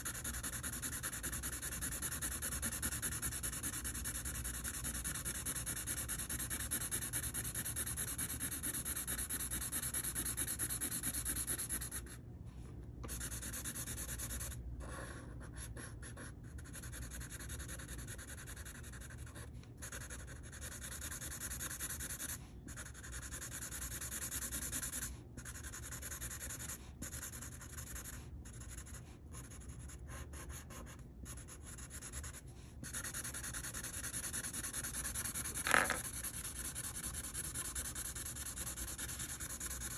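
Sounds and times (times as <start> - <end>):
marker rubbing on paper: 0.0 - 12.2, 13.0 - 39.9.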